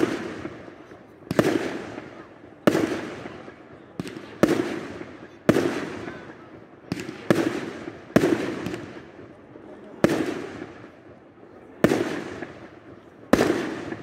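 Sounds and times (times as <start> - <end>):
fireworks bursting with echo: 0.0 - 14.0.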